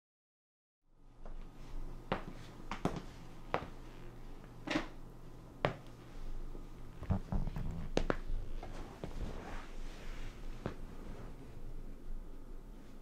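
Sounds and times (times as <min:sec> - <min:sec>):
steady low hum: 0:00.9 - 0:13.0.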